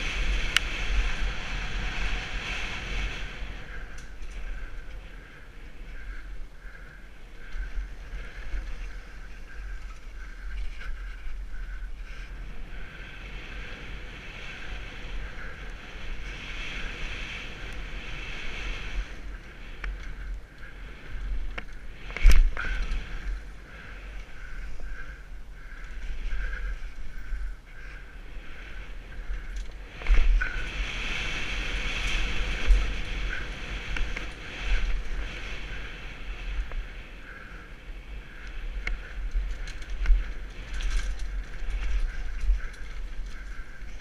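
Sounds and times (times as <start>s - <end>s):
tyres rattling over dirt trail: 0.0s - 44.0s
wind buffeting camera: 0.0s - 44.0s.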